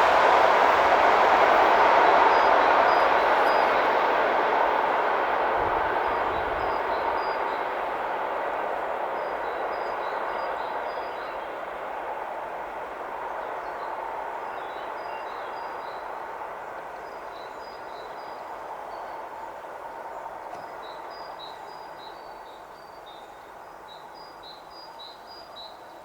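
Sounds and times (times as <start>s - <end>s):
electric train rumbling: 0.0s - 26.0s.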